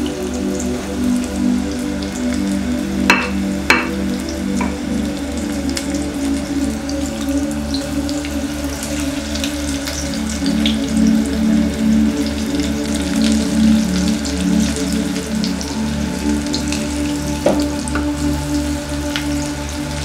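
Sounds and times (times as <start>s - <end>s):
background music with low beat: 0.0s - 6.6s, 10.3s - 20.0s
food deep-frying in hot oil: 0.0s - 20.0s.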